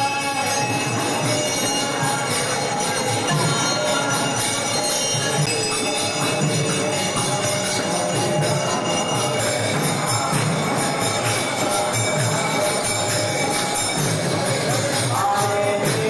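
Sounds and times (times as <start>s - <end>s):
small hand cymbals jingling: 0.0s - 16.0s.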